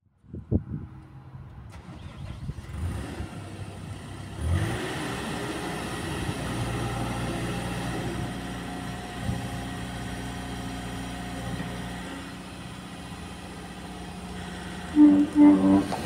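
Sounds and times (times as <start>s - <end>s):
excavator diesel engine running: 1.7s - 16.0s.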